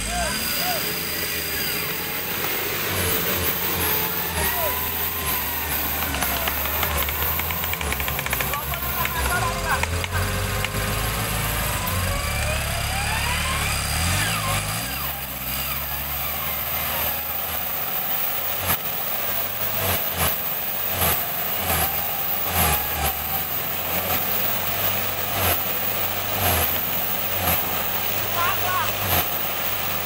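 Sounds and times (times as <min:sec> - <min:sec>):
engine running at low revs: 0:00.0 - 0:30.0.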